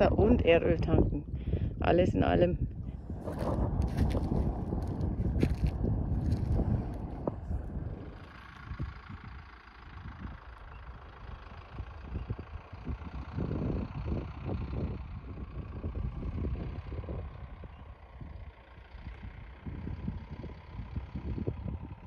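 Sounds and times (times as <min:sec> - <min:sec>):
diesel engine running: 0:00.0 - 0:22.0
wind buffeting microphone: 0:00.0 - 0:22.0.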